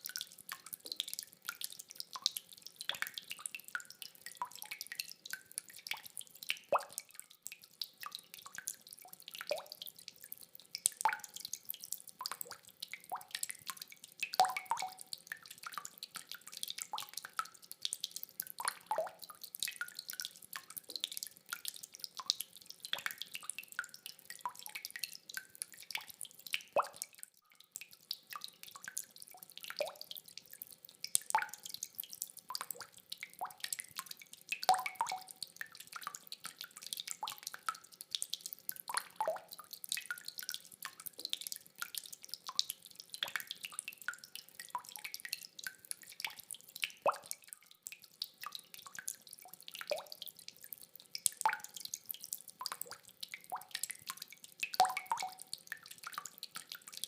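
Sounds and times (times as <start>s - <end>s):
rainwater drops plinking: 0.0s - 56.9s.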